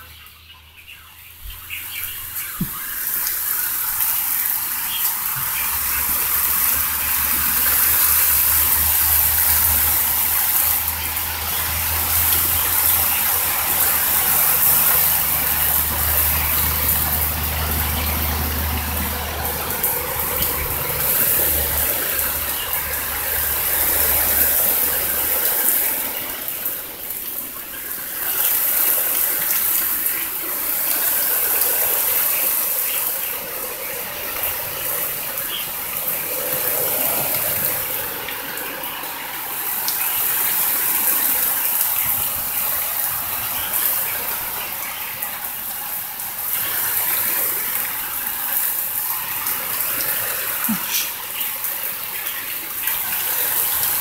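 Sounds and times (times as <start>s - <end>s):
heavy rain: 0.0s - 54.0s
gusting wind: 1.2s - 54.0s.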